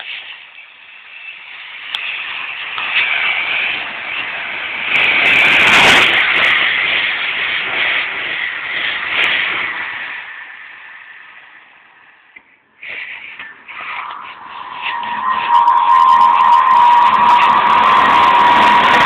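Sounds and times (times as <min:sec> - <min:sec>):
train passing at speed: 0:00.0 - 0:12.3, 0:13.4 - 0:19.0.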